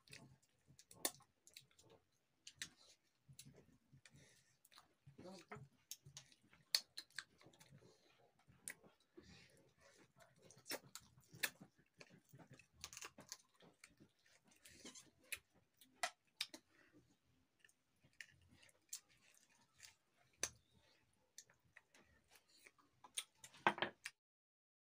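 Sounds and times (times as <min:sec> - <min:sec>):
man chewing and lip smacking: 0:00.0 - 0:24.2.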